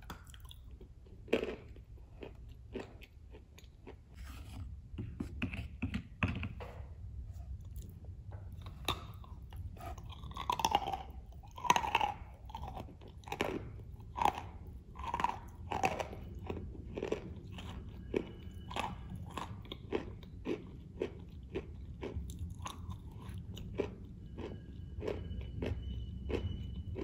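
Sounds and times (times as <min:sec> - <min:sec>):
crisp cookie crunching: 0:00.0 - 0:04.3, 0:08.7 - 0:27.0.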